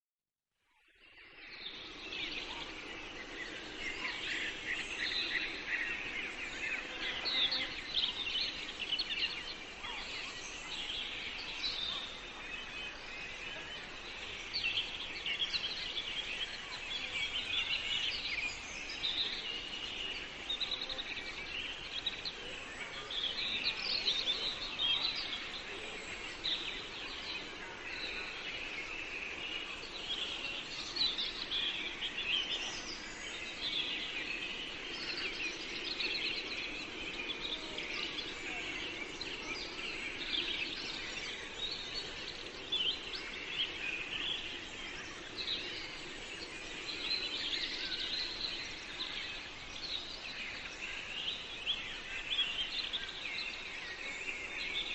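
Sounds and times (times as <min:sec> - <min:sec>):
background hiss: 0:00.8 - 0:54.9
small birds chirping: 0:00.8 - 0:54.9.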